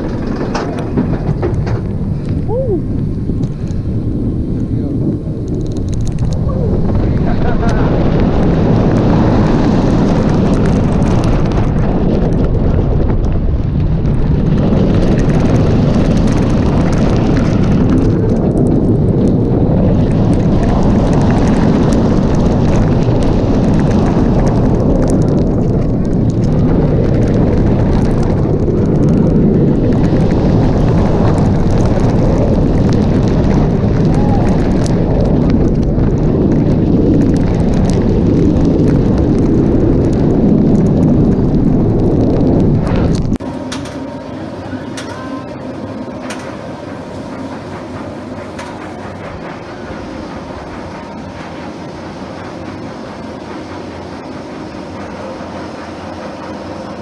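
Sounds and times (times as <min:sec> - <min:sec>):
roller coaster train rumbling: 0:00.0 - 0:57.0
wind buffeting microphone: 0:00.0 - 0:57.0.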